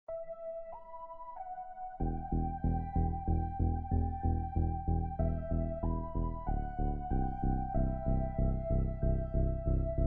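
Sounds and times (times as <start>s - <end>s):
background music held notes: 0.1s - 10.0s.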